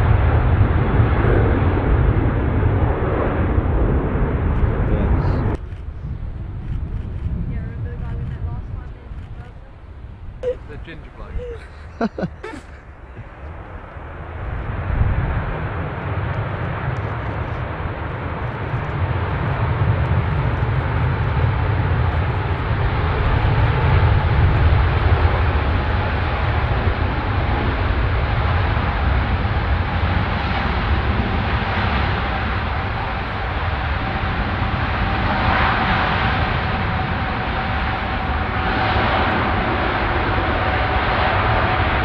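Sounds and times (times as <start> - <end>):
jet airliner engines passing: 0.0 - 42.0.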